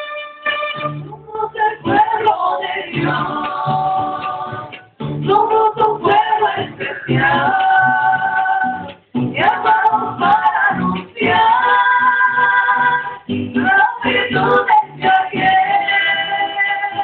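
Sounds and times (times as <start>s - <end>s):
mariachi band playing and singing: 0.0s - 17.0s.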